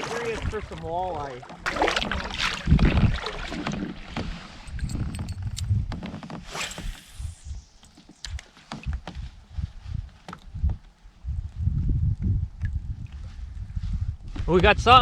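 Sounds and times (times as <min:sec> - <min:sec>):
water rumble: 0:00.0 - 0:14.2
wind on microphone: 0:00.0 - 0:15.0.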